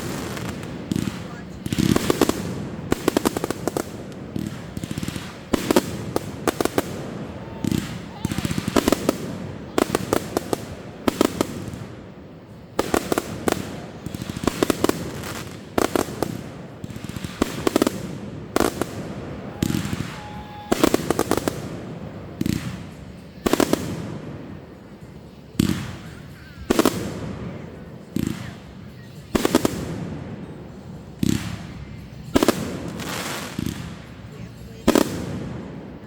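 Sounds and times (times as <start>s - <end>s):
fireworks banging and crackling: 0.0s - 36.0s.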